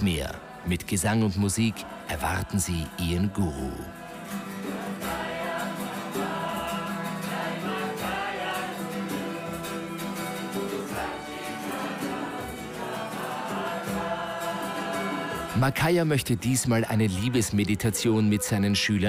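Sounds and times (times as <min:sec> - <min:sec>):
group of people singing: 0:00.0 - 0:16.1.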